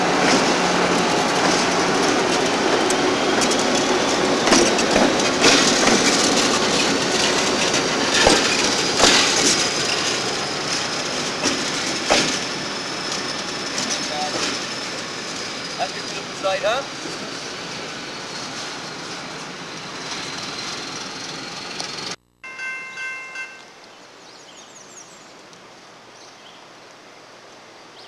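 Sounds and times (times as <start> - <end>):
wheels clicking over rail joints: 0.0 - 23.6
diesel locomotive engine: 0.0 - 23.8
wheels rumbling on rail: 0.0 - 24.7.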